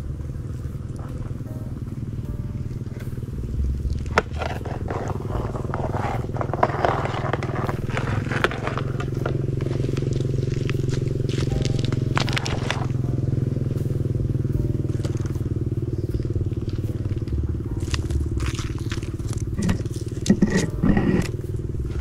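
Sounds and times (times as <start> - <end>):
dry leaves crackling: 0.0 - 22.0
low motor drone: 0.0 - 22.0.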